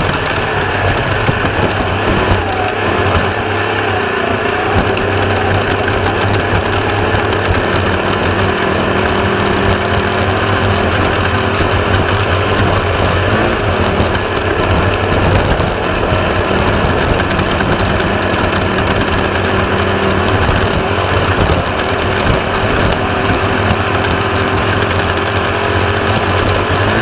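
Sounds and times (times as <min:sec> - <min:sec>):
buggy engine droning: 0:00.0 - 0:27.0.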